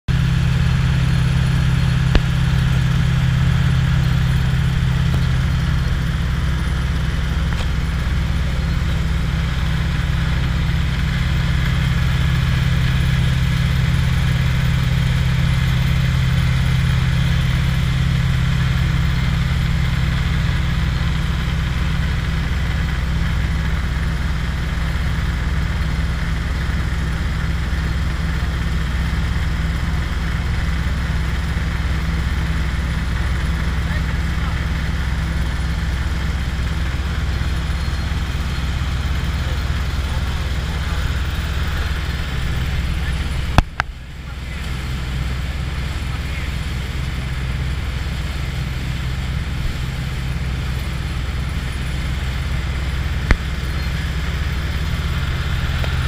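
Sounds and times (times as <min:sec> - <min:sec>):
engine idling: 0:00.1 - 0:56.0.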